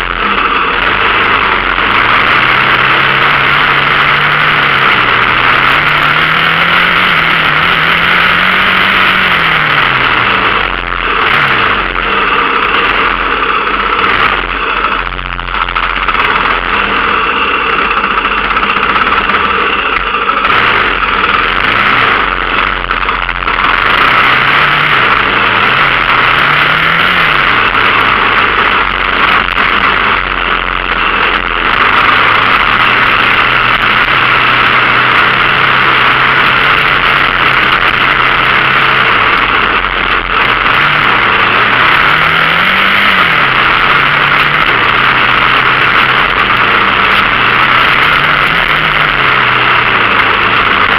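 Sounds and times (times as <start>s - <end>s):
dirt bike engine revving: 0.0s - 50.9s
loud rushing noise: 0.0s - 50.9s.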